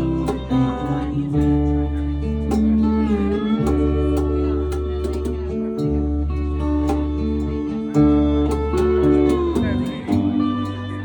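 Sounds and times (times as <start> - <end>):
country band instrumental: 0.0 - 11.0
pitch-bending lead guitar line: 0.0 - 11.0.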